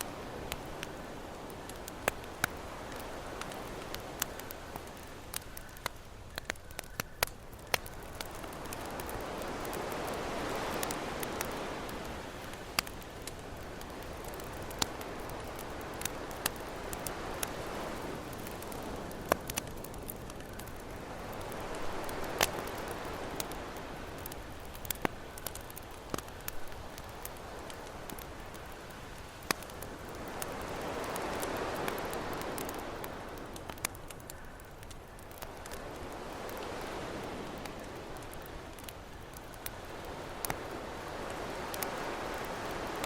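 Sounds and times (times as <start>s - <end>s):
ocean waves: 0.0s - 5.4s, 7.8s - 34.2s, 35.5s - 38.9s, 39.6s - 43.0s
campfire crackling and popping: 0.0s - 43.0s.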